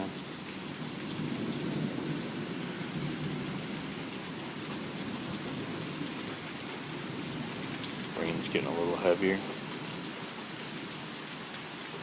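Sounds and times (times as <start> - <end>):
heavy rain on surfaces: 0.0 - 12.0.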